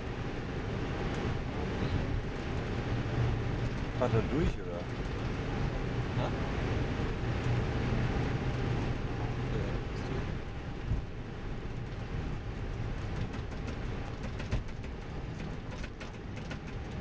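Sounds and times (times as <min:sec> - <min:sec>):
cockpit low hum: 0:00.0 - 0:17.0.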